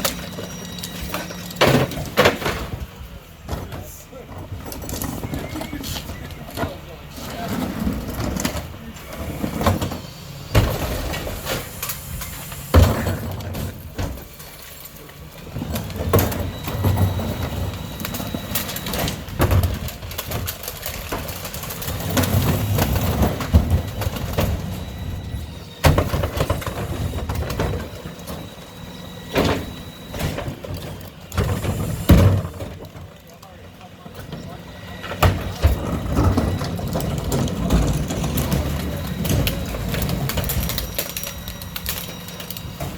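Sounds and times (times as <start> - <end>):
garbage truck engine rumbling: 0.0 - 42.9.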